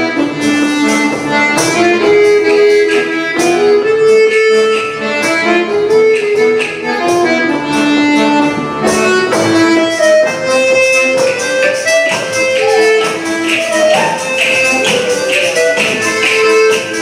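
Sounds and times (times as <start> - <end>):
button accordion folk tune: 0.0 - 17.0.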